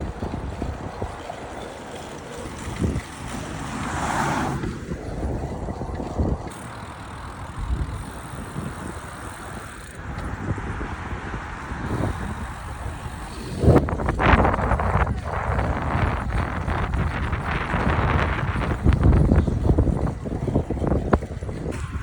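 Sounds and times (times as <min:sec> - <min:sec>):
road traffic noise: 0:00.0 - 0:22.0
wind buffeting microphone: 0:00.0 - 0:22.0
vehicle passing: 0:01.4 - 0:20.8.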